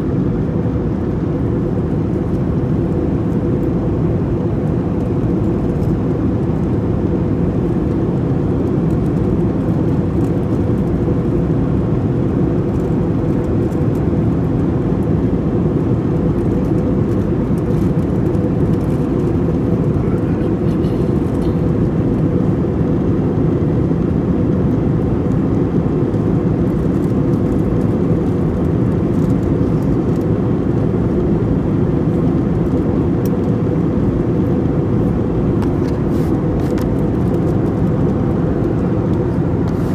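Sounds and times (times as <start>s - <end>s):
jet engines and airflow: 0.0s - 39.9s.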